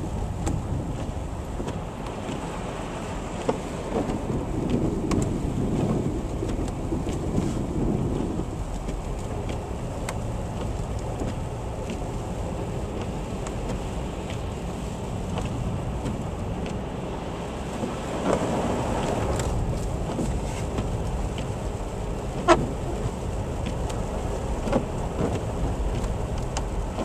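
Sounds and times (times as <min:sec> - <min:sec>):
vehicle rumbling on road: 0:00.0 - 0:27.0
light ticks: 0:00.3 - 0:02.5, 0:03.2 - 0:16.9, 0:19.0 - 0:27.0.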